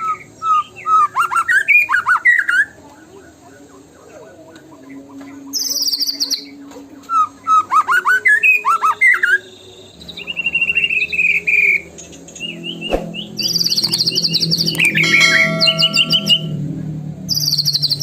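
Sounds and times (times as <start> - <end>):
bird song with trills and whistles: 0.0 - 2.8, 4.4 - 18.0.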